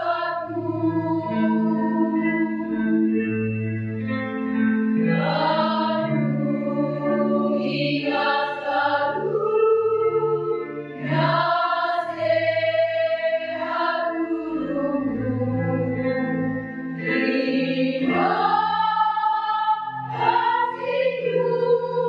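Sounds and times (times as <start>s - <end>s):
women's choir singing: 0.0s - 3.0s, 5.1s - 16.0s, 17.0s - 22.0s.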